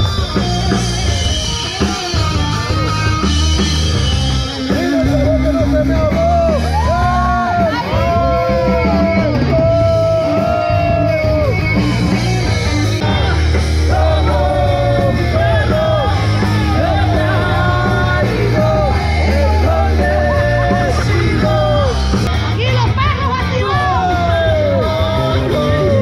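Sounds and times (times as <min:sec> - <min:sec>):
heavy bass: 0:00.0 - 0:26.0
loud music with sung vocals: 0:00.0 - 0:26.0
people yelling along: 0:00.0 - 0:26.0.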